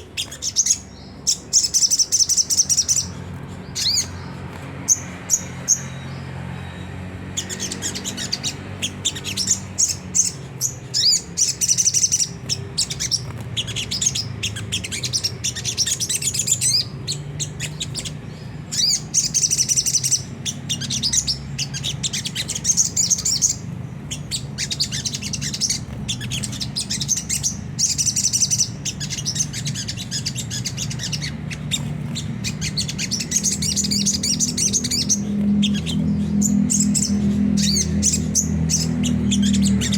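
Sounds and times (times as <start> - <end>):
bird twittering chatter: 0.0 - 39.9.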